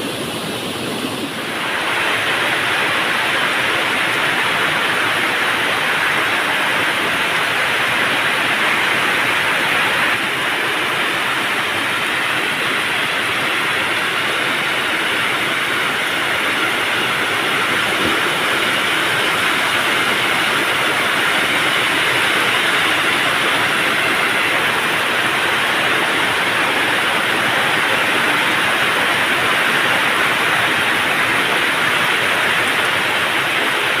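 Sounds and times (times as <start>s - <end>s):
loud steady rushing noise: 0.0s - 34.0s.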